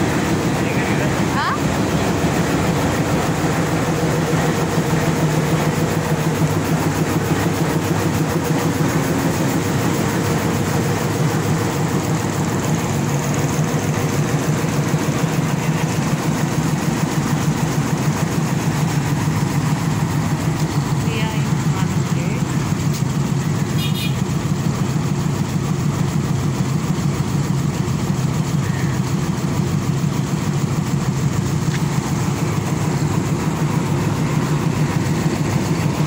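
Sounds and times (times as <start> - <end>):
diesel locomotive engine idling: 0.0 - 36.0.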